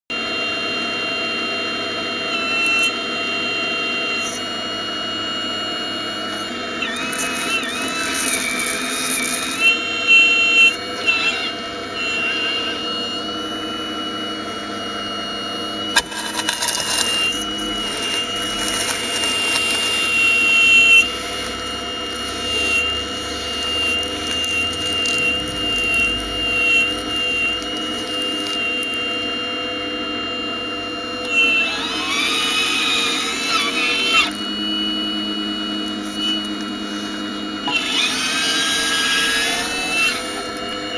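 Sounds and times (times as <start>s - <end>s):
model excavator motor whine: 0.0s - 40.9s.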